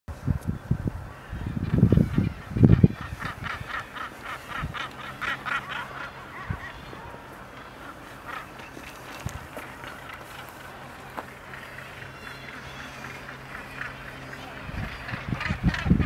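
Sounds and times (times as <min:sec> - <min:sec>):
wind buffeting microphone: 0:00.1 - 0:12.2, 0:13.0 - 0:16.0
seabirds calling harshly: 0:00.6 - 0:16.0.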